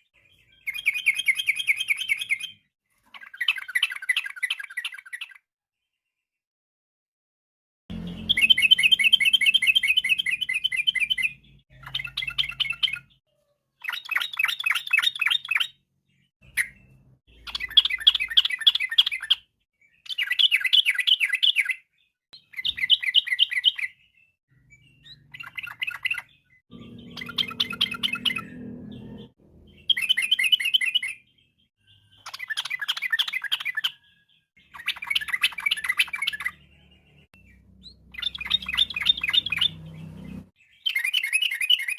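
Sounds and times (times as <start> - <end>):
bulbul singing: 0.1 - 5.4, 7.9 - 41.9.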